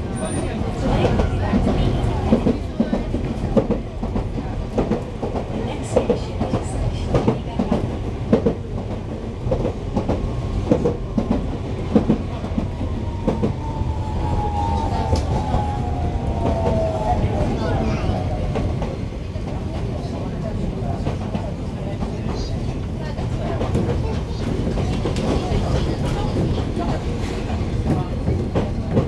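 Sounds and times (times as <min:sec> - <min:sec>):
train rumble inside car: 0:00.0 - 0:29.0.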